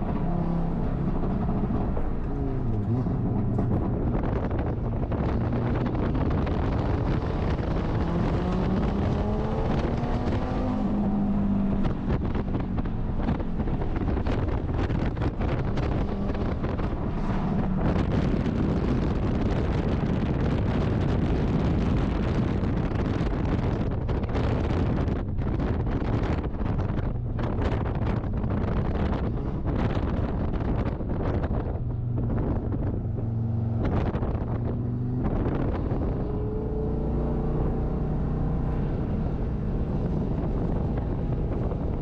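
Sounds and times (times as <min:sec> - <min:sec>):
race car engine running: 0:00.0 - 0:42.0
wind buffeting microphone: 0:00.0 - 0:42.0.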